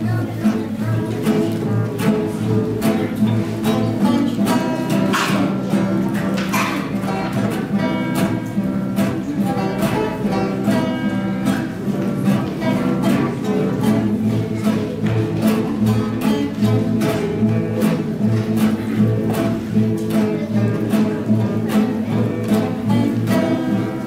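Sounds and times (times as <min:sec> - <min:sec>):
acoustic guitars strumming: 0:00.0 - 0:24.0.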